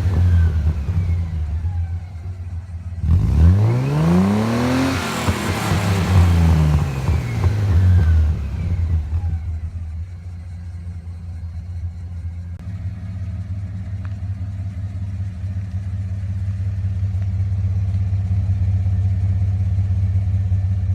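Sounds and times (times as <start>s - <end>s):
car engine droning: 0.0s - 20.9s.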